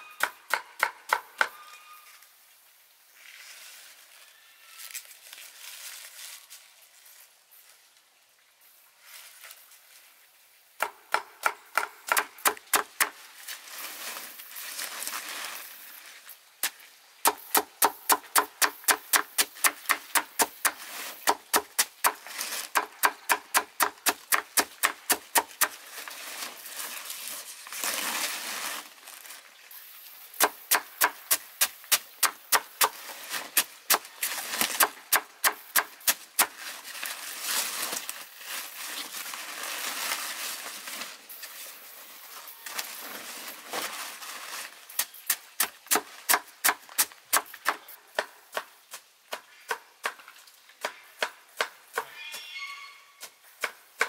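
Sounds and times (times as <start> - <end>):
leaves rustling: 1.6 - 51.2.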